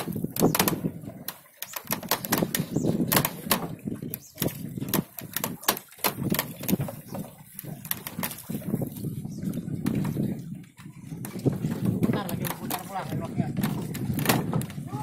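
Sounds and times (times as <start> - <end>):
sharp clicks and knocks: 0.0 - 8.6, 11.2 - 14.8
low rumble of wind and sea: 0.0 - 15.0.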